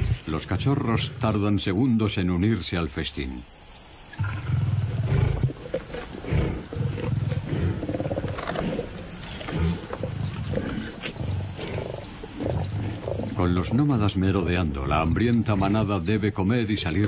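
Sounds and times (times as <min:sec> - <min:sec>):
lions growling: 0:00.0 - 0:01.6, 0:04.2 - 0:17.0.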